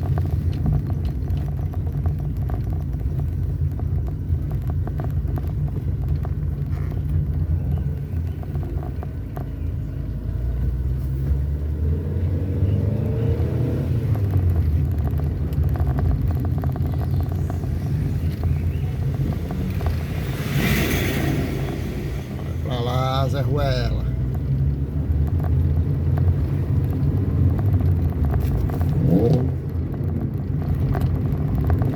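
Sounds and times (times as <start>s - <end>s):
vehicle engine and road noise: 0.0s - 31.9s.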